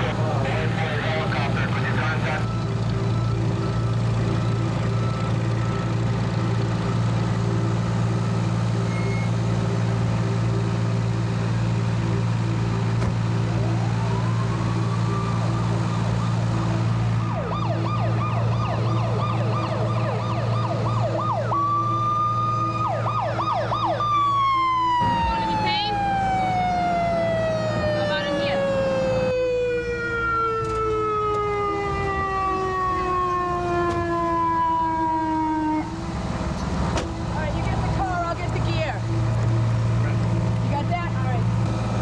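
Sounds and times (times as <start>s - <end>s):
ambulance siren wailing and yelping: 0.0s - 41.6s
low engine drone: 0.0s - 42.0s.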